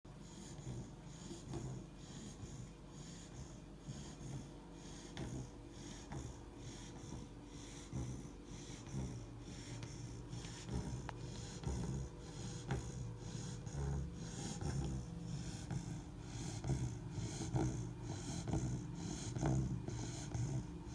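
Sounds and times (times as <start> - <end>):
puppy snoring: 0.1 - 20.9.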